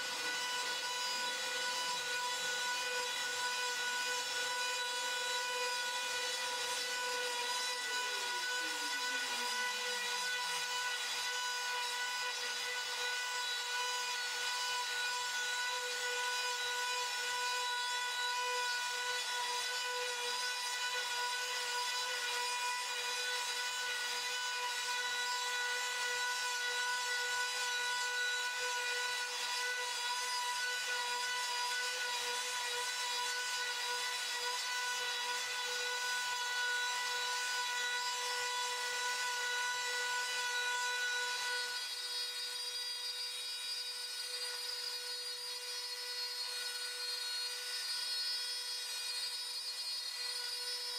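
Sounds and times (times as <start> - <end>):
router bit rasping: 0.0 - 50.9
router spindle whine: 0.0 - 50.9.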